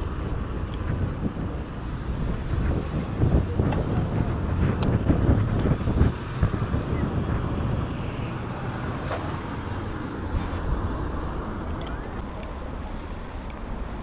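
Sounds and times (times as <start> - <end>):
road and traffic noise: 0.0 - 14.0
wind rumble on microphone: 0.0 - 14.0.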